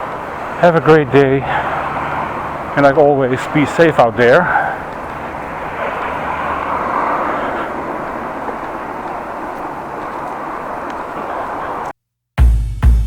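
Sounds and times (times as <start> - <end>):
street traffic rumble: 0.0 - 11.9.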